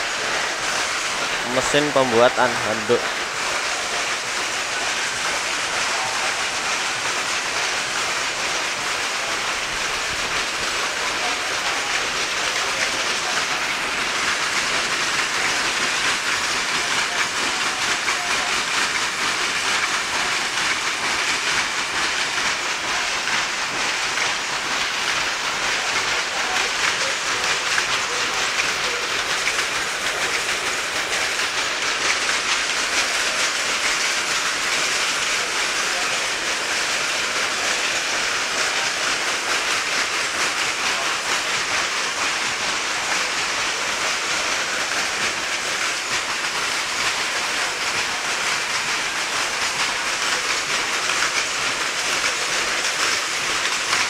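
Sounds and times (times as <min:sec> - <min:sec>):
loom mechanical clatter: 0:00.0 - 0:54.0.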